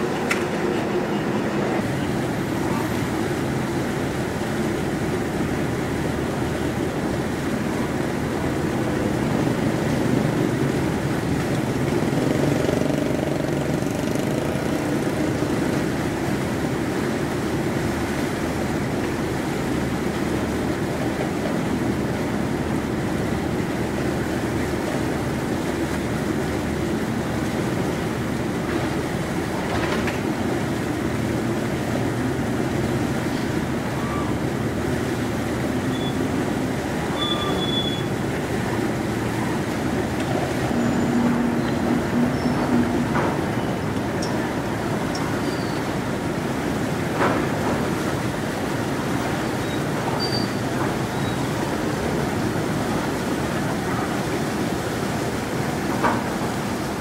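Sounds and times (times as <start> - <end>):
diesel engine deep rumble: 0.0 - 57.0.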